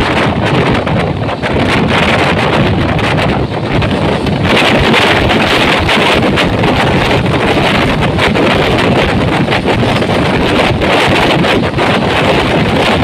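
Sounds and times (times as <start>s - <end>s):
moving train rushing noise: 0.0s - 13.0s
wind buffeting microphone: 0.0s - 13.0s.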